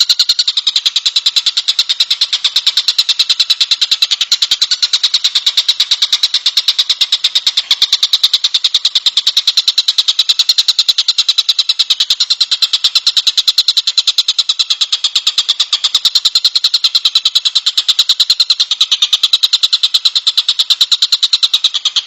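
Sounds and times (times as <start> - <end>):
kingfisher calling high notes: 0.0 - 17.8.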